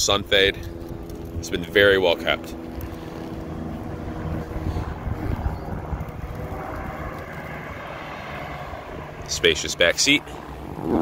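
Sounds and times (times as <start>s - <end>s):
wind rumbling on microphone: 0.6s - 9.5s, 10.3s - 11.0s.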